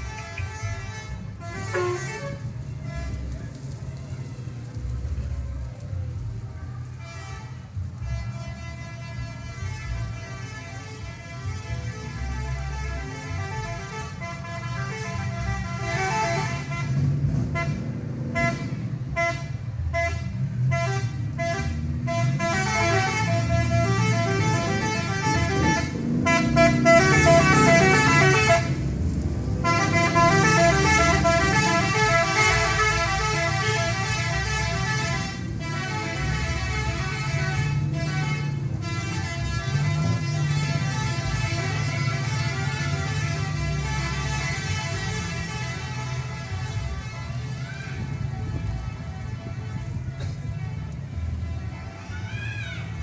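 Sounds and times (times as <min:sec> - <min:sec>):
bus musical horn tune: 0:00.0 - 0:03.2, 0:07.0 - 0:28.8, 0:29.6 - 0:47.6, 0:48.2 - 0:51.9
bus engine running: 0:00.0 - 0:53.0.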